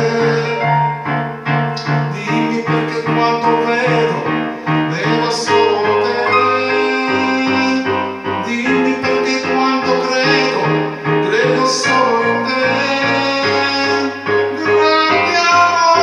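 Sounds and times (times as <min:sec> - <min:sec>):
electronic keyboard ballad: 0:00.0 - 0:16.0.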